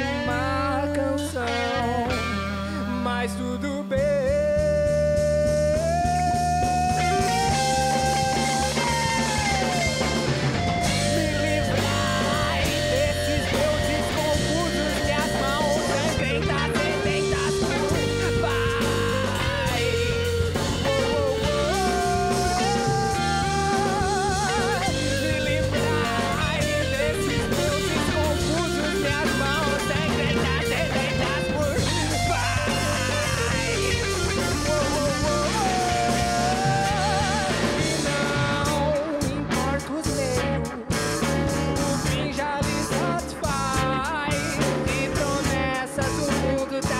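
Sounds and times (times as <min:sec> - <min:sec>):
bass guitar: 0:00.0 - 0:46.9
drum kit: 0:00.0 - 0:46.9
electric guitar: 0:00.0 - 0:46.9
person singing with vibrato: 0:00.0 - 0:46.9.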